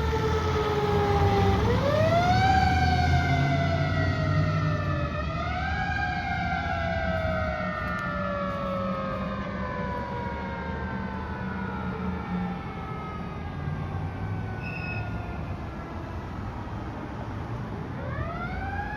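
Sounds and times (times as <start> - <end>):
fire engine siren wailing: 0.0 - 18.9.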